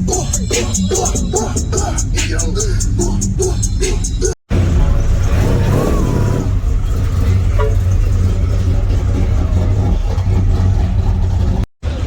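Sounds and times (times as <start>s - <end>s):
car engine and exhaust rumble: 0.0s - 12.0s.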